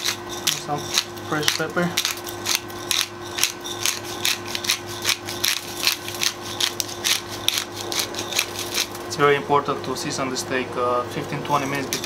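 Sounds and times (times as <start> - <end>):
pepper mill grinding: 0.0 - 9.1, 11.2 - 12.0.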